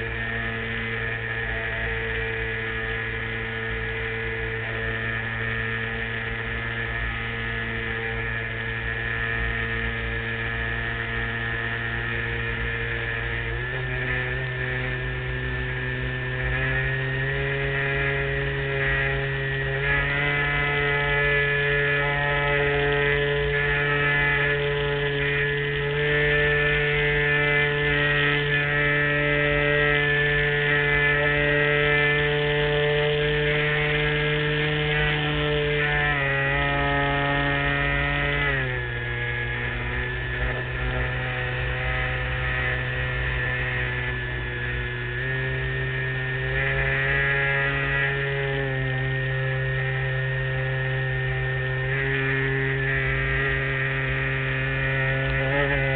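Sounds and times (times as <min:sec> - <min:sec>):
model airplane motor droning: 0:00.0 - 0:55.9.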